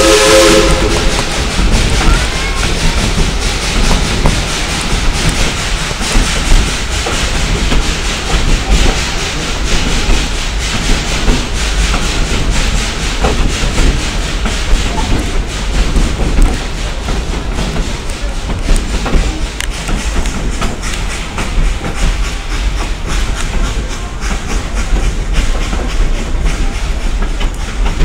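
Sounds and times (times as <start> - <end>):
train rumble and rushing: 0.0 - 28.0
wheels clicking on rails: 0.0 - 28.0.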